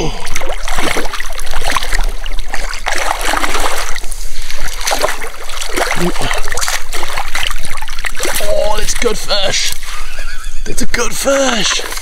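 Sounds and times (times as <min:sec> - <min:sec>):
stream water splashing: 0:00.0 - 0:12.0.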